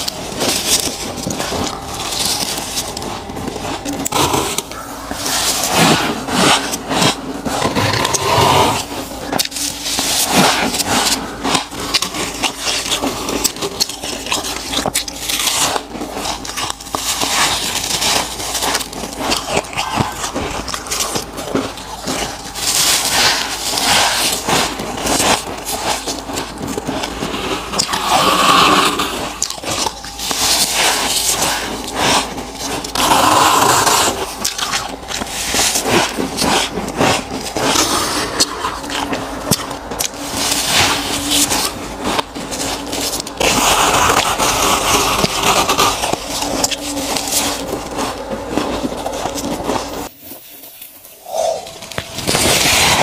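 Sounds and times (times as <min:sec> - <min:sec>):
ice crunching and scraping: 0:00.0 - 0:53.0.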